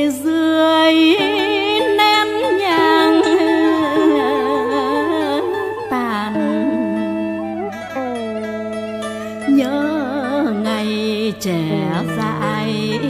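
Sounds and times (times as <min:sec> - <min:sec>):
slow chant melody with gliding notes: 0:01.2 - 0:13.0.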